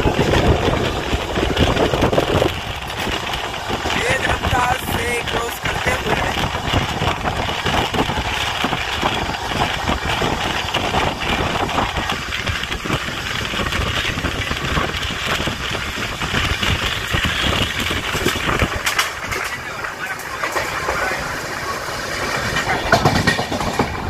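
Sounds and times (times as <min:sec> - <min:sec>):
rushing air: 0:00.0 - 0:24.0
train wheels rumbling and clattering: 0:00.0 - 0:24.0.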